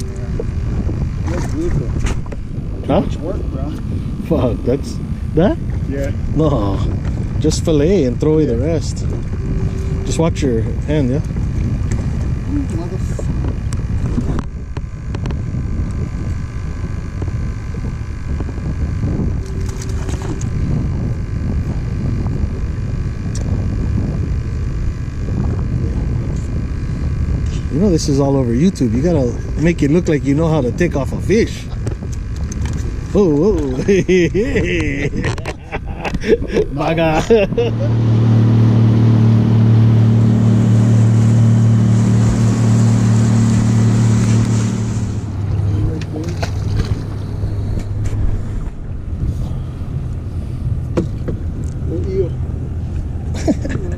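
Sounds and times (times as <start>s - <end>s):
fishing boat engine rumble: 0.0s - 53.9s
wind and water noise: 0.0s - 53.9s.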